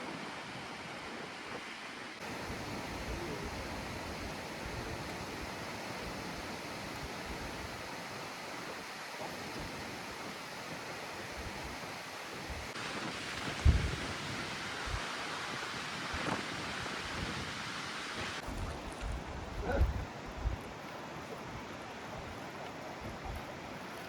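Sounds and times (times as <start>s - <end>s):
flowing water rushing: 0.0s - 24.0s.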